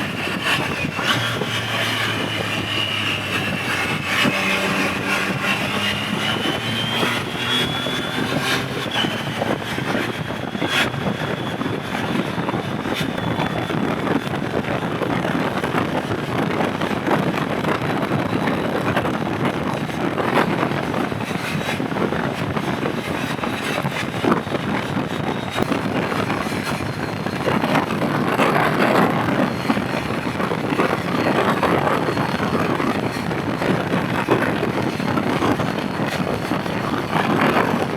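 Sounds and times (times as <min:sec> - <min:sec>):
motorcycle engine running: 0:00.0 - 0:37.9
wind and road noise: 0:00.0 - 0:37.9.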